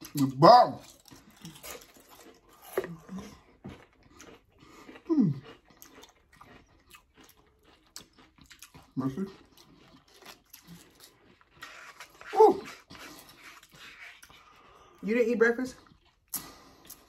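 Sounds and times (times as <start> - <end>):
chewing and crunching food: 0.0 - 17.0.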